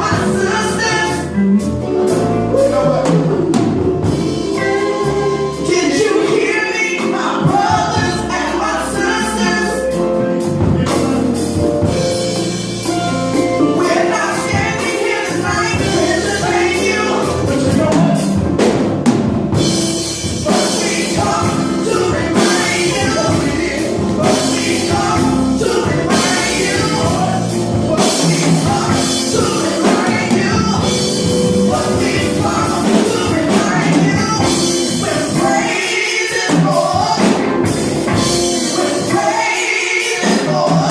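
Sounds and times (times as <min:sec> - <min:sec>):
band with drum kit: 0:00.0 - 0:40.9
people singing: 0:00.0 - 0:40.9.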